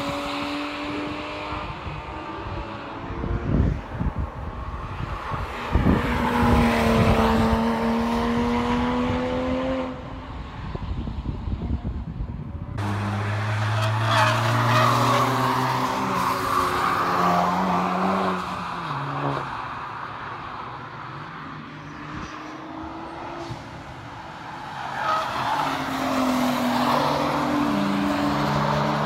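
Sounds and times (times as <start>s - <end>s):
race car engine passing: 0.0s - 10.3s, 12.8s - 20.0s, 21.1s - 29.0s.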